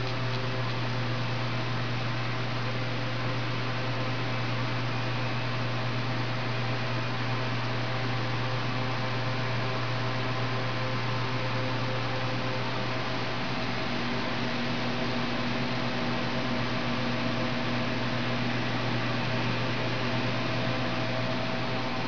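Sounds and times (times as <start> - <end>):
fan-like hiss: 0.0 - 22.0
refrigeration equipment humming: 0.0 - 22.0.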